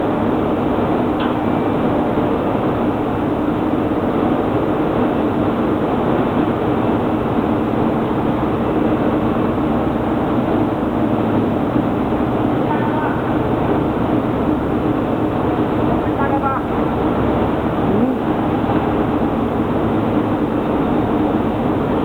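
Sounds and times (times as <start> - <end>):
industrial machinery drone: 0.0 - 22.0.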